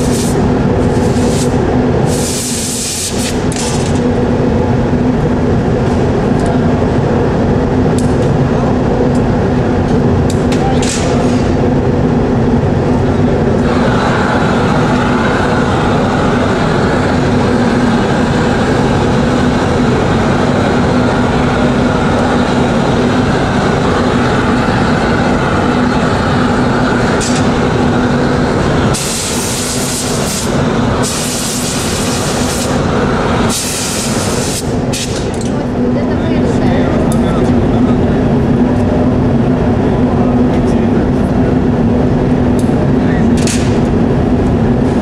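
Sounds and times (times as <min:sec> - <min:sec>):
constant hum: 0:00.0 - 0:45.0
furnace and burner roar: 0:00.0 - 0:45.0.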